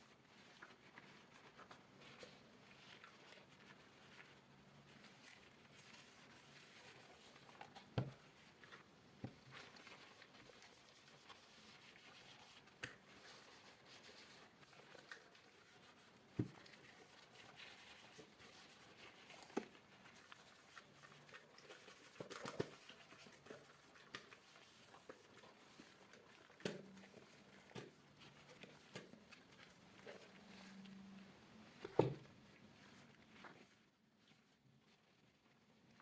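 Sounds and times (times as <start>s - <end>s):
cloth rubbing over objects: 0.0s - 36.0s.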